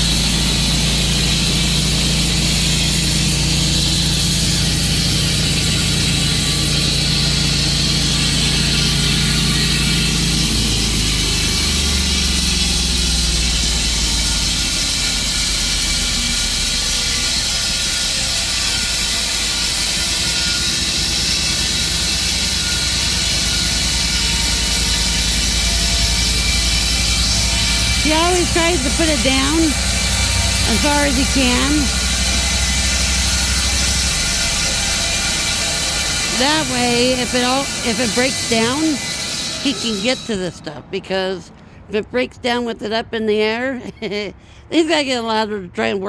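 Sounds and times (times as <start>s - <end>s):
sawmill engine running under load: 0.0s - 41.0s.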